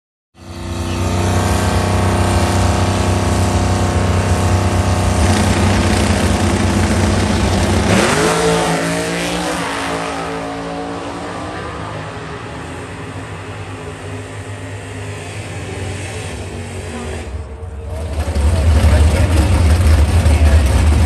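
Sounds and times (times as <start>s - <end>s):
dragster engine running and revving: 0.4s - 21.0s.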